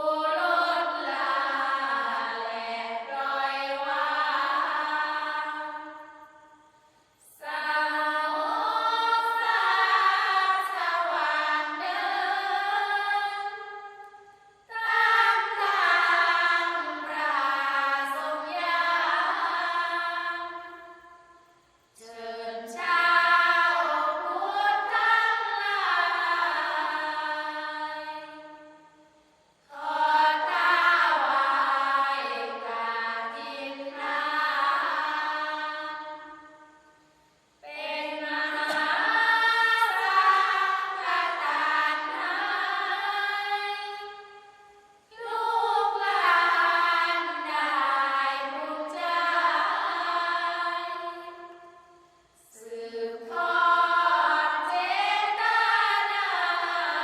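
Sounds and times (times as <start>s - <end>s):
group chanting melodically: 0.0s - 37.0s, 37.6s - 57.0s.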